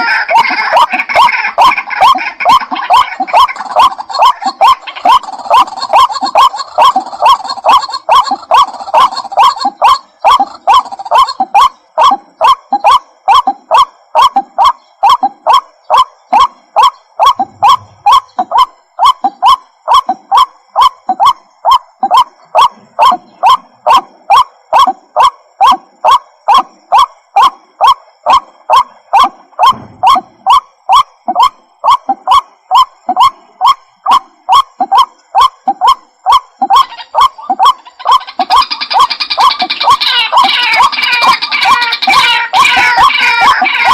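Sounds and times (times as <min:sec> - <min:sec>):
waterhen calling: 0:00.0 - 0:43.9.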